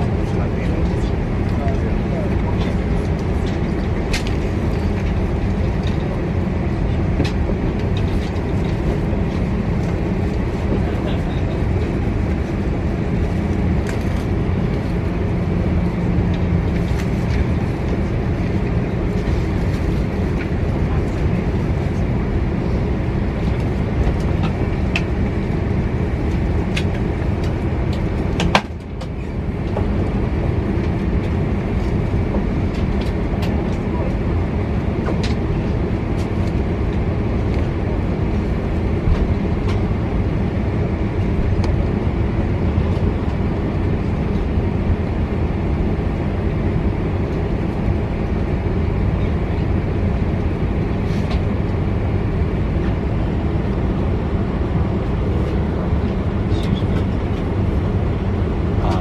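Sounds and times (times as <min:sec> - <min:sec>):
vehicle rumbling in motion: 0:00.0 - 0:59.0.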